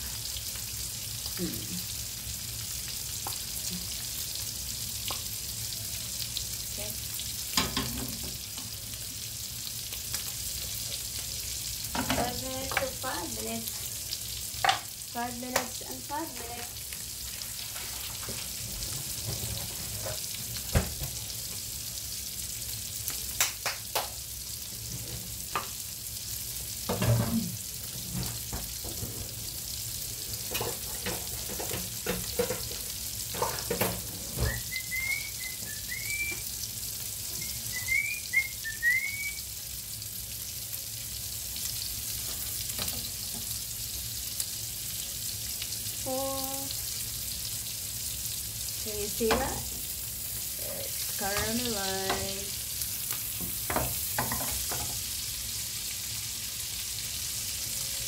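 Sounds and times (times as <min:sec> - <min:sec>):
steaks sizzling in a frying pan: 0:00.0 - 0:58.0.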